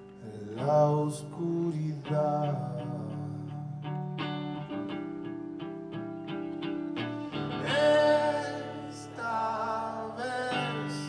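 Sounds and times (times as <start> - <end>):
electric guitar picking notes: 0.0 - 11.0.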